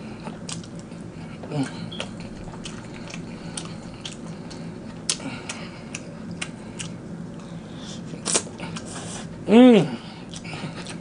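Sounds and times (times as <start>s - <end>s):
low steady hum: 0.0s - 11.0s
man chewing with wet mouth clicks: 0.2s - 9.0s, 10.2s - 11.0s.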